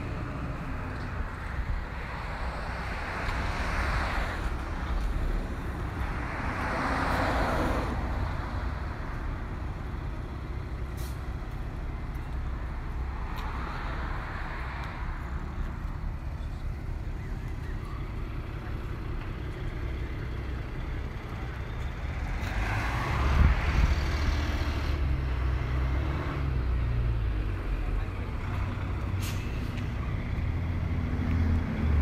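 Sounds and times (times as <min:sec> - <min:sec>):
low traffic rumble: 0:00.0 - 0:32.0
vehicles passing by: 0:00.0 - 0:32.0.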